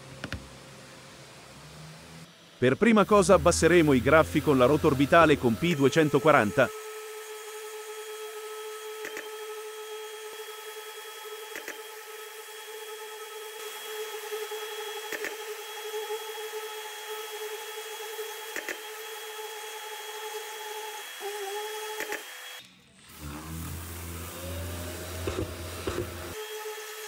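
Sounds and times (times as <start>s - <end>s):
orbital sander whining: 1.4s - 27.0s.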